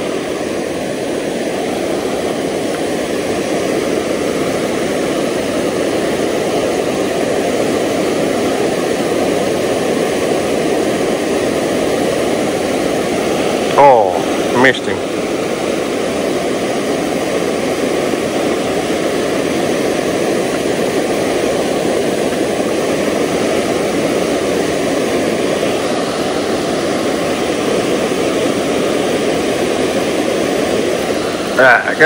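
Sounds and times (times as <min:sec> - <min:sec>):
rushing creek water: 0:00.0 - 0:32.0.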